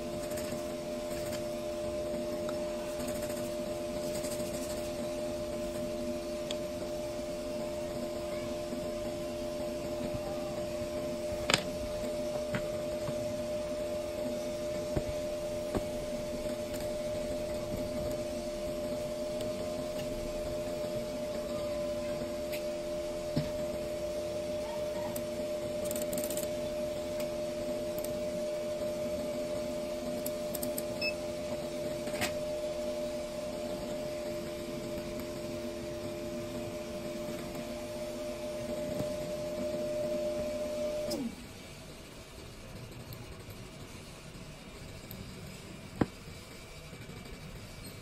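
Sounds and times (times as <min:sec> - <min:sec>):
electric motor hum: 0:00.0 - 0:48.0.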